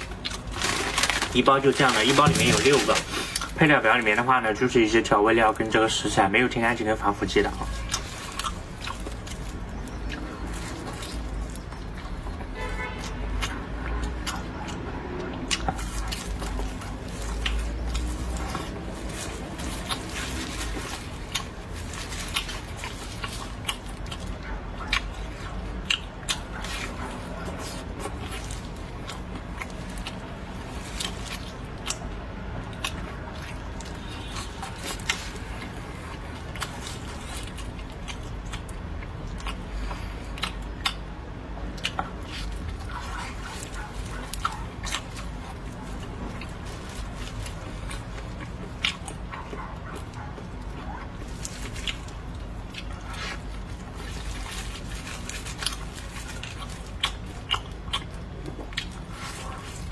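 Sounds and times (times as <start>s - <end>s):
low steady hum: 0.0s - 59.9s
person chewing and eating: 0.0s - 59.9s.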